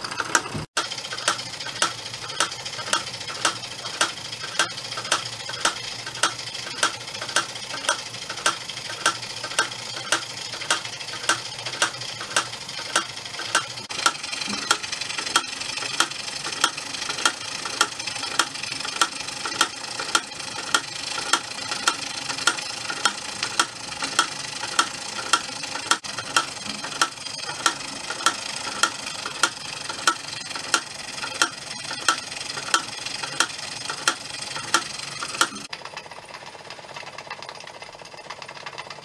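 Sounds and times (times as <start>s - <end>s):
sharp repeating clicks: 0.0s - 35.9s.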